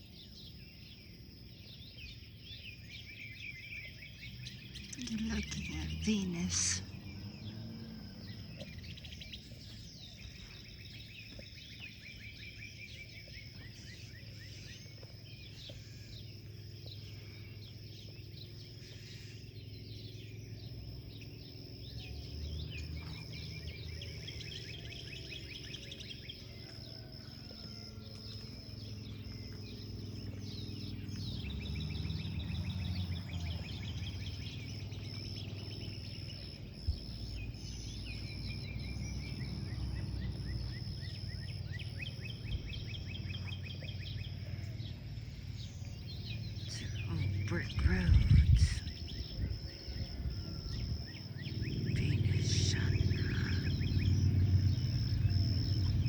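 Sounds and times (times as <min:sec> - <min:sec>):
birds chirping and trilling: 0:00.0 - 0:56.0
low outdoor rumble: 0:01.6 - 0:56.0.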